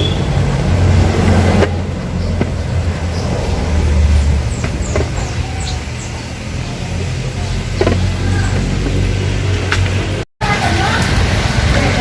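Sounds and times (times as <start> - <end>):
motorcycle engine at low revs: 0.0 - 10.2.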